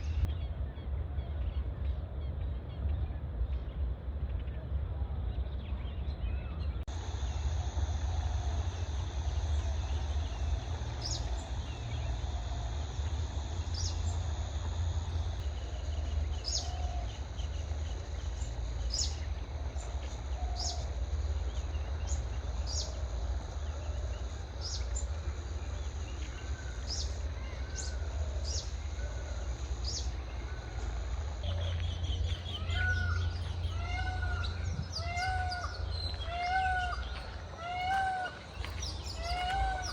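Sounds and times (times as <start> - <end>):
low steady rumble: 0.0 - 39.9
insects trilling: 6.9 - 39.9.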